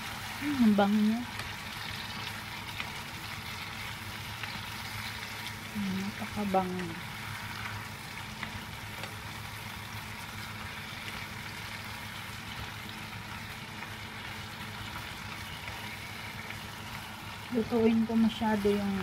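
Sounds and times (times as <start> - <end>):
chopsticks stirring in pan: 0.0 - 19.0
tomatoes and onion sizzling in oil: 0.0 - 19.0.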